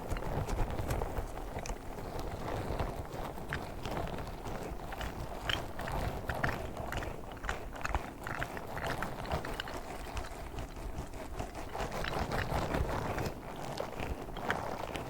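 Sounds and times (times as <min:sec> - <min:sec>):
quick taps clicks and crackles: 0:00.0 - 0:15.0.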